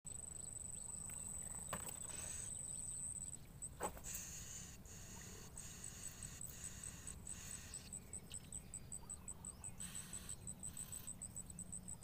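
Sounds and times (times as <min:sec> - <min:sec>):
insect trilling and chirping: 0:00.1 - 0:12.0.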